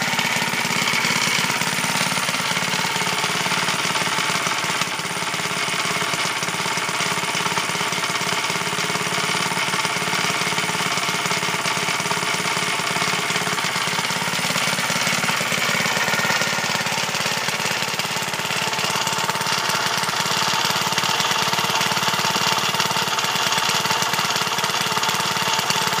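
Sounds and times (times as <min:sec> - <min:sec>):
small engine running steadily: 0:00.0 - 0:26.0.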